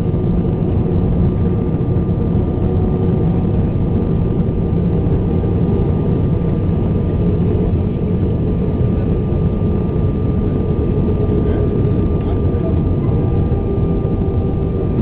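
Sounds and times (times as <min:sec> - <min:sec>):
aircraft cabin rumble: 0:00.0 - 0:15.0
jet engine whine: 0:00.0 - 0:15.0.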